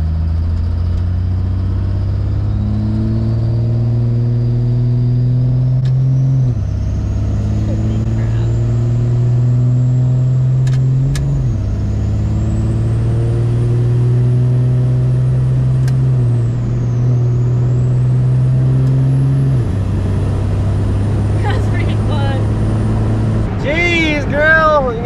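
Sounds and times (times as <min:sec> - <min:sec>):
diesel engine accelerating: 0:00.0 - 0:25.0.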